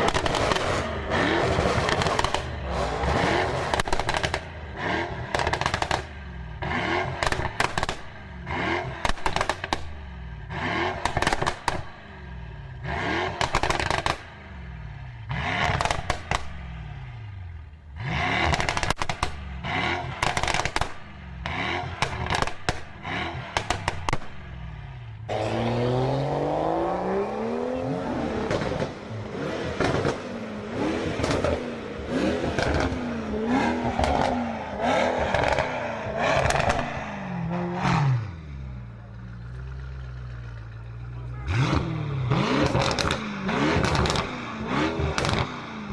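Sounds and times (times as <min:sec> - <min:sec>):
exhaust crackles and pops: 0:00.0 - 0:25.4, 0:28.0 - 0:38.1, 0:38.7 - 0:45.9
car engine revving: 0:00.0 - 0:45.9.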